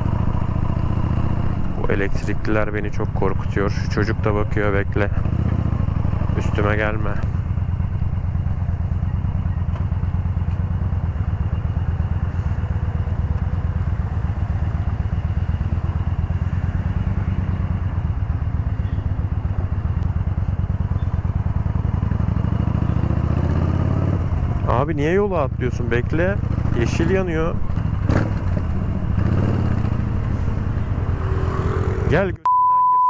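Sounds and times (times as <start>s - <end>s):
motorcycle engine rumbling: 0.0s - 32.5s.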